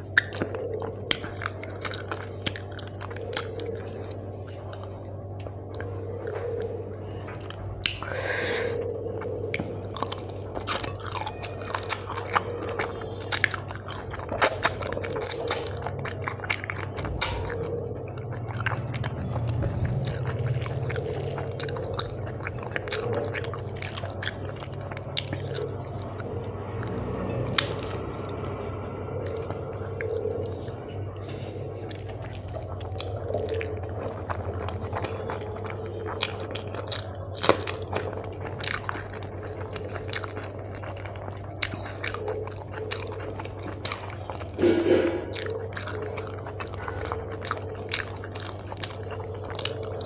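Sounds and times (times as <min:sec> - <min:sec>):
close chewing and biting: 0:00.0 - 0:50.0
mouth clicks and crunches: 0:00.0 - 0:50.0
steady low hum: 0:00.0 - 0:50.0.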